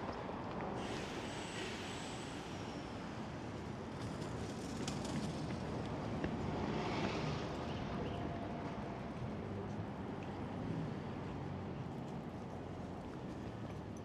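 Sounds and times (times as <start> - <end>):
passing vehicles rumble: 2.6 - 13.9.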